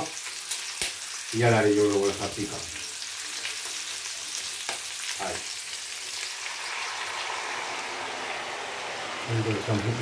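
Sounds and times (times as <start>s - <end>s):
meat frying in oil: 0.0s - 10.0s
water poured into hot pan: 0.0s - 10.0s.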